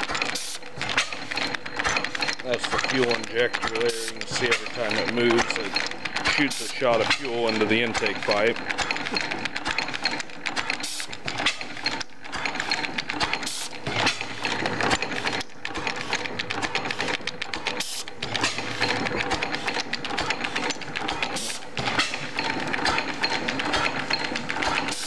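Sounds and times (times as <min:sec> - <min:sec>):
gas engine metallic clatter: 0:00.0 - 0:25.0.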